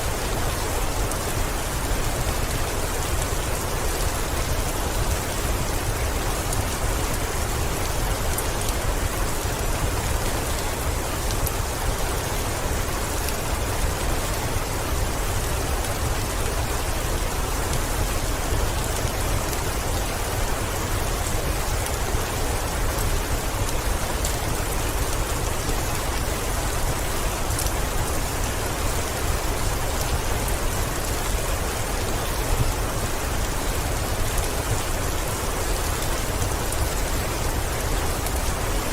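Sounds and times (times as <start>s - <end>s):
faint ticks of raindrops: 0.0s - 38.9s
heavy rain on a window: 0.0s - 38.9s.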